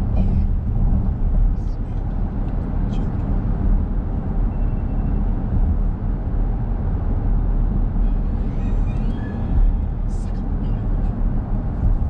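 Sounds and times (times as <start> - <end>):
car driving on paved road: 0.0 - 12.0.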